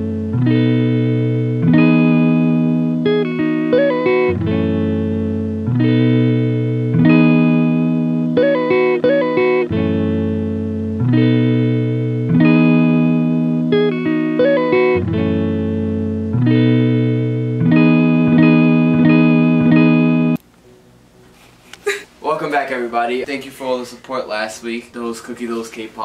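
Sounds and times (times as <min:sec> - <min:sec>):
guitar playing chords: 0:00.0 - 0:21.0.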